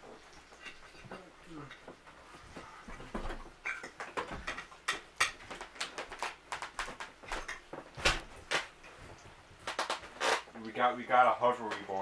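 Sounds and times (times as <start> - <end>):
fat popping and crackling: 0.0 - 12.0.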